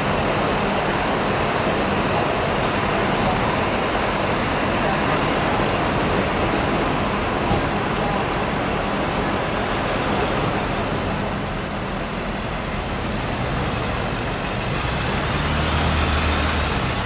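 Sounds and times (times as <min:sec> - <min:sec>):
city traffic noise: 0:00.0 - 0:17.0
truck engine rolling past: 0:00.0 - 0:17.0.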